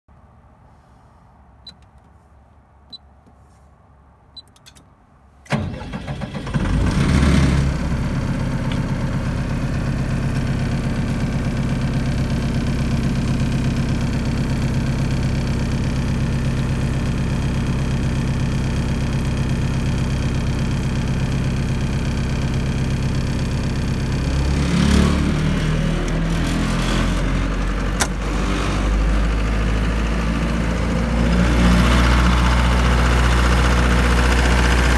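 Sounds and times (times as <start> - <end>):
diesel generator starting and running: 4.0 - 34.9.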